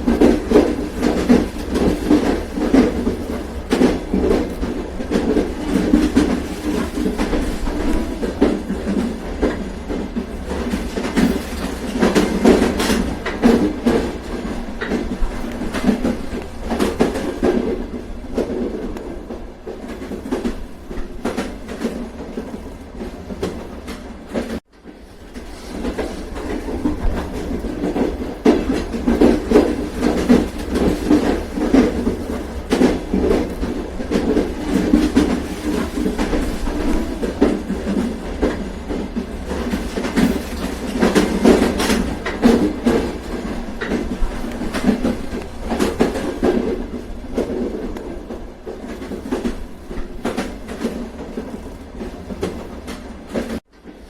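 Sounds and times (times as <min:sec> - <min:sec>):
train rumbling on rails: 0:00.0 - 0:54.0
wheels clacking over rail joints: 0:00.0 - 0:54.0.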